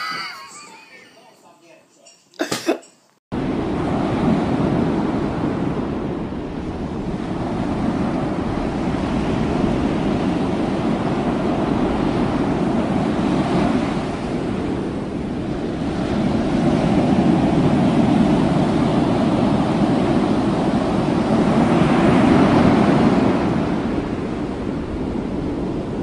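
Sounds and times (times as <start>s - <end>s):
ocean waves breaking: 3.4s - 26.0s.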